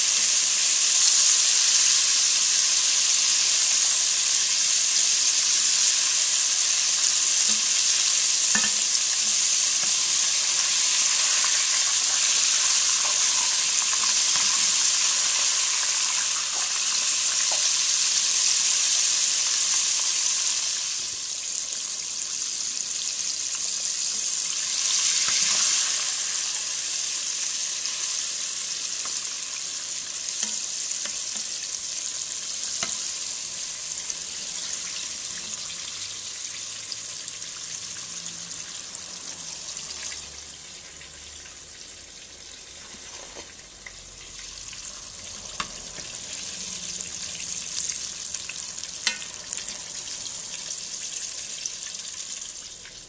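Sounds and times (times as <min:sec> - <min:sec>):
fish deep-frying in hot oil: 0:00.0 - 0:53.0.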